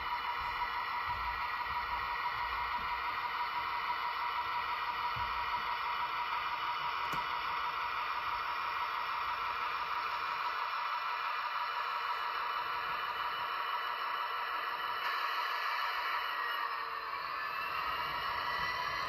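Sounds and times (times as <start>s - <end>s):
model train whirring on track: 0.0s - 19.0s.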